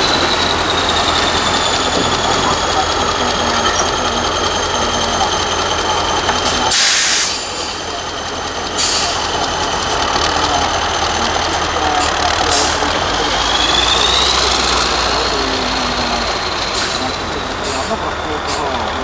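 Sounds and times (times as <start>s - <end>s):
diesel truck engine under load: 0.0s - 19.0s.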